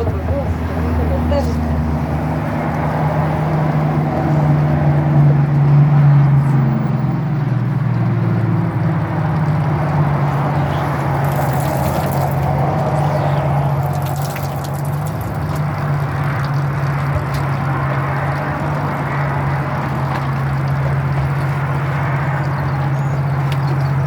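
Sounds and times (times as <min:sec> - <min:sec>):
motor engine humming: 0:00.0 - 0:24.0.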